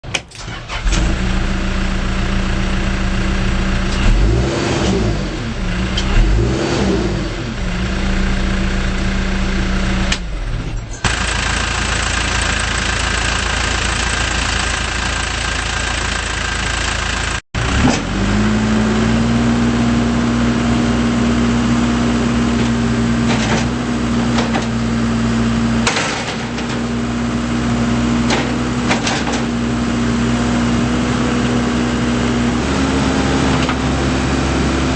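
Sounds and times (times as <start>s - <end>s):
diesel engine revving: 0.1s - 34.9s.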